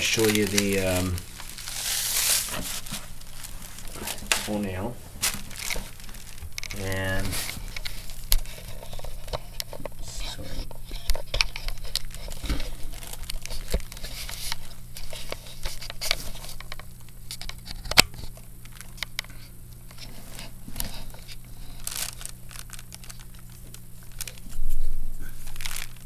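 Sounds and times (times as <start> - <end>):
handling rustling and crackling: 0.0 - 26.0
low electrical hum: 0.0 - 26.0.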